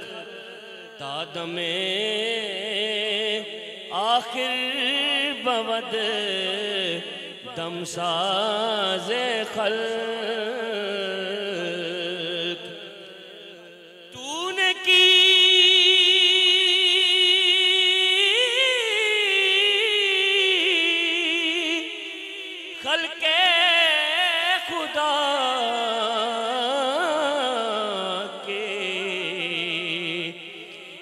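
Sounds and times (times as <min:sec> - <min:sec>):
man singing devotional song: 0:00.0 - 0:31.0.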